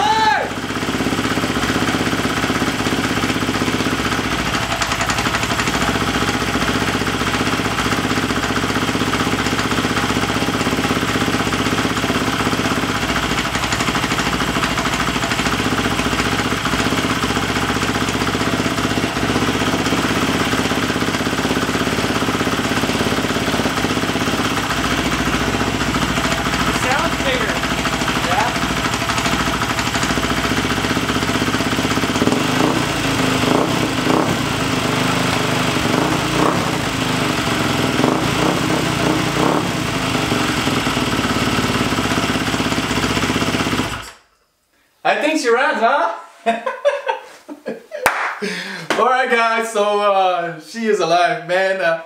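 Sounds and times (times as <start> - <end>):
dirt bike engine idling: 0.0 - 44.2.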